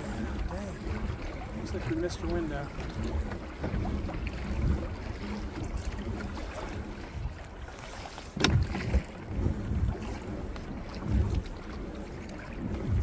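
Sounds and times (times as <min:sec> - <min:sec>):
water lapping around kayak: 0:00.0 - 0:13.0
wind rumbling on microphone: 0:00.0 - 0:13.0.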